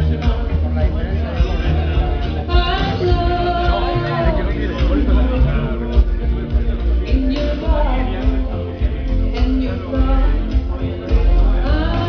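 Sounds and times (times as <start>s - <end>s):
loud music with singing and bass: 0.0s - 12.0s.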